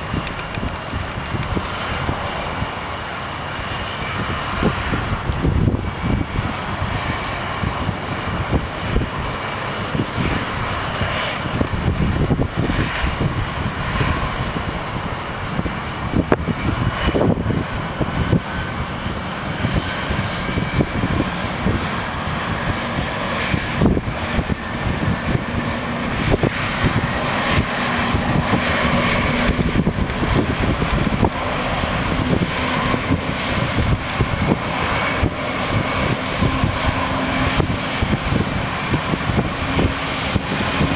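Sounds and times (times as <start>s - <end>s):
jet engines whining: 0.0s - 40.9s
wind buffeting microphone: 0.0s - 40.9s.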